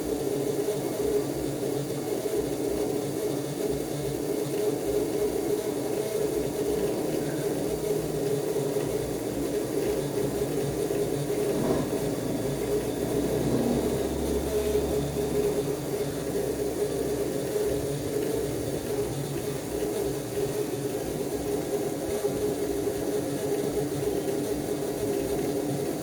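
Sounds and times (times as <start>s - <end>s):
washing machine filling with water: 0.0s - 26.0s.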